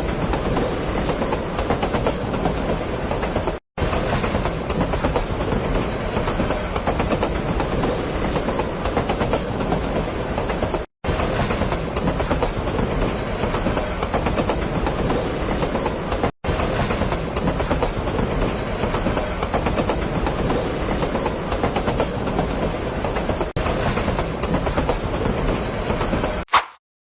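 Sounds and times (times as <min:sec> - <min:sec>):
wheels clattering over rail joints: 0:00.0 - 0:26.4
train rumbling on track: 0:00.0 - 0:26.5.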